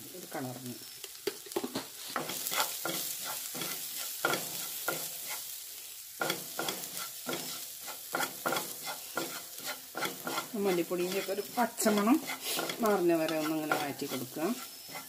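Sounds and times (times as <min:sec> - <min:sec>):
onions sizzling in oil: 0:00.0 - 0:15.0
spatula scraping and tapping pan: 0:01.0 - 0:05.6, 0:06.2 - 0:15.0.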